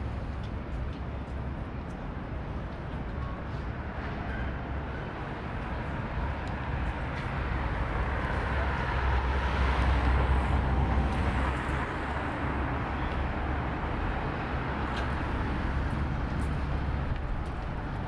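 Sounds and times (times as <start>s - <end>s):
distant city traffic hum: 0.0s - 18.0s.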